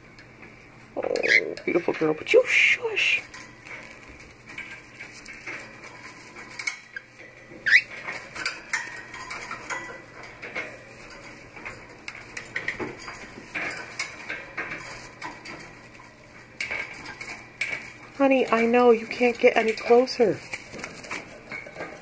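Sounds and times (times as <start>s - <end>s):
bird beak clicking and nibbling: 3.2s - 22.0s.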